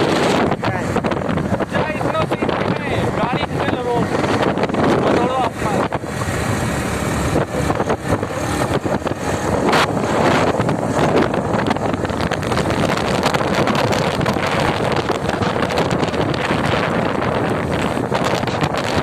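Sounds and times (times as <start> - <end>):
motorcycle engine: 0.0 - 19.0
wind rushing over microphone: 0.0 - 19.0.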